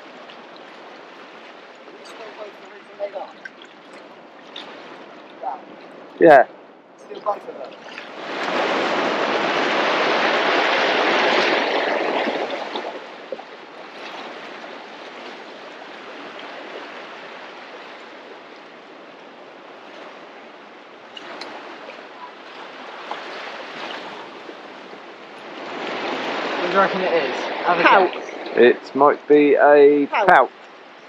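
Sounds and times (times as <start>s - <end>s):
sea water washing against pier: 0.0s - 31.0s.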